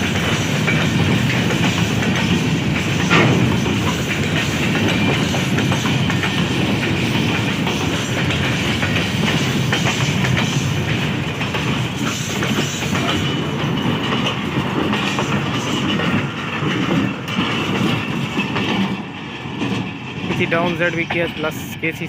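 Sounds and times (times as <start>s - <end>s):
train wheels clattering over rail joints: 0.0s - 21.9s.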